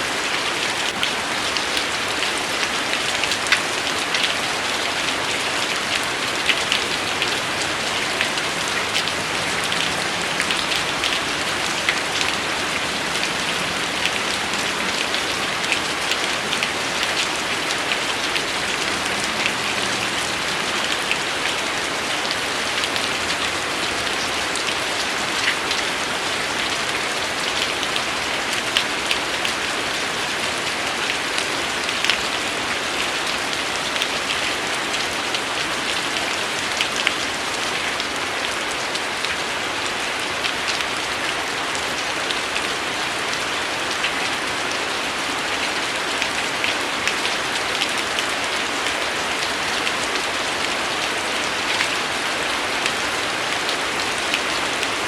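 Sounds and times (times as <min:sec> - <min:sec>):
rain on a hard surface: 0:00.0 - 0:55.0.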